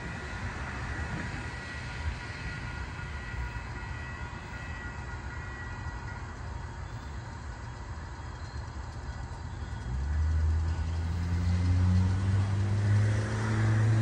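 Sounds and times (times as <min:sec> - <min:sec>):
diesel train rumbling along track: 0:00.0 - 0:14.0.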